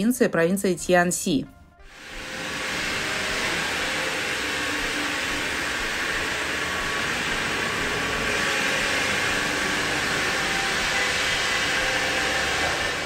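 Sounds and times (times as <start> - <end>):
machine hiss and hum: 1.8 - 13.0.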